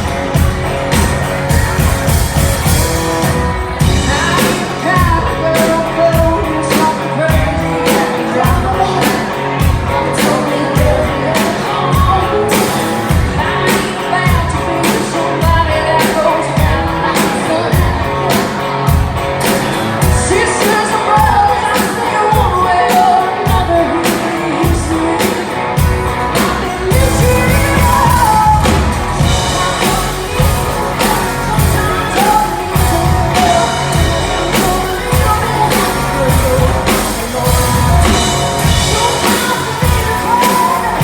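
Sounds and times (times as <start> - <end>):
band playing country-rock song: 0.0 - 41.0
person singing: 0.0 - 41.0
steady drum beat: 0.0 - 41.0.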